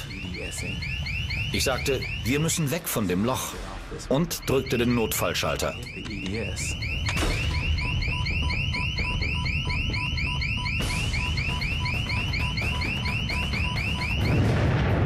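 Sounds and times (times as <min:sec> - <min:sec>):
electronic alarm rising chirp: 0:00.0 - 0:03.5, 0:04.2 - 0:14.5
pulsing beep: 0:00.0 - 0:03.5, 0:04.2 - 0:14.5.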